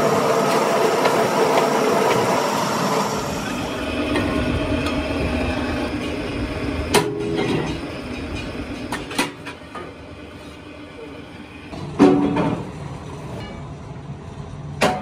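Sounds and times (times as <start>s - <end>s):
rim repair machine droning: 0.0s - 13.6s.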